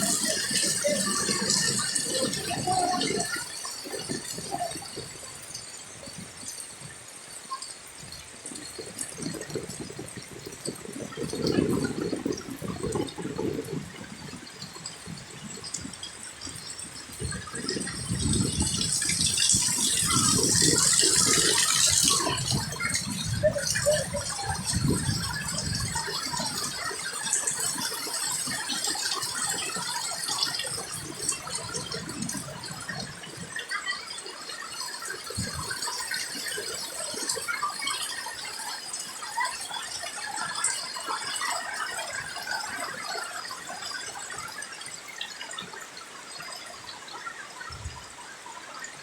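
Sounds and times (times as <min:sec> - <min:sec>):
floodwater sloshing and gurgling: 0:00.0 - 0:07.1, 0:07.9 - 0:49.0
heavy rain falling: 0:00.0 - 0:47.1
flowing water rushing: 0:00.0 - 0:49.0.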